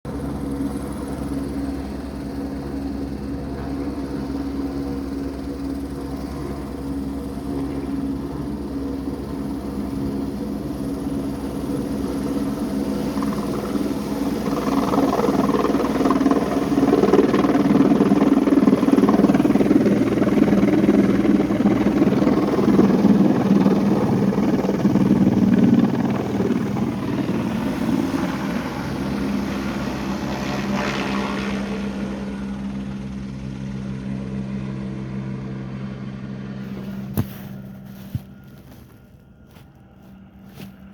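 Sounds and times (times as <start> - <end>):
helicopter engine drone: 0.1 - 40.9
helicopter rotor chop: 0.1 - 40.9.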